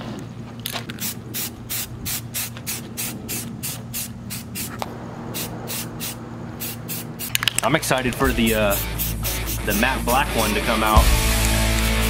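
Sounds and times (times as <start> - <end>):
spray paint can bursts: 1.0 - 4.8, 5.4 - 12.0.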